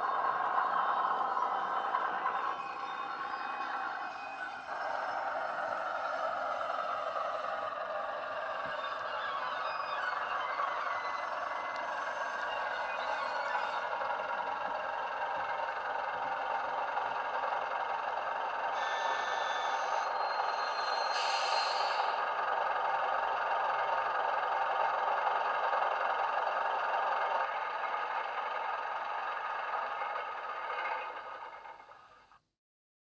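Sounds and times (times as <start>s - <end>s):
model train diesel engine sound: 0.0s - 32.5s.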